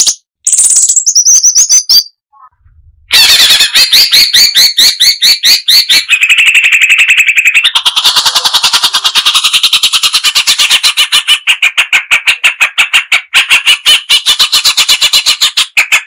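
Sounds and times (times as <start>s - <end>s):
bird chattering song: 0.0s - 16.0s.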